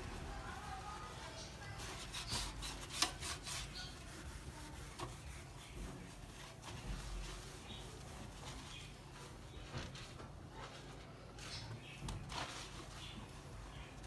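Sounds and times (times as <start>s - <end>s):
rubbing and scraping strokes: 0.4s - 14.0s.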